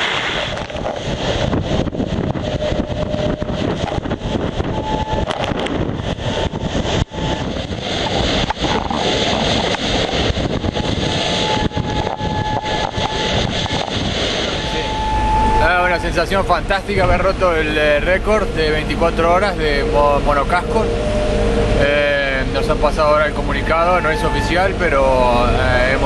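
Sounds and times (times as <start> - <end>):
faint steady whine: 0.0 - 26.0
water rushing past hull: 0.0 - 26.0
wind buffeting microphone: 0.0 - 26.0.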